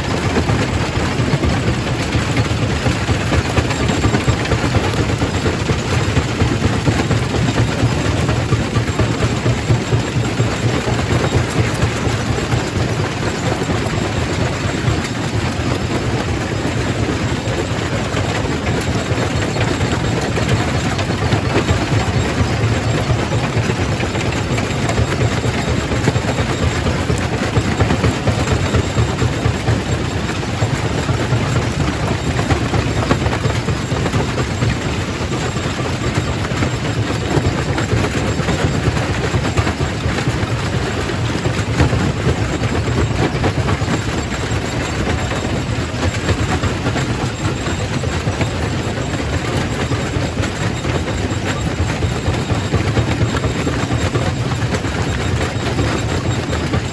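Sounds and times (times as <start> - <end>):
rock crusher machine drone: 0.0 - 56.9.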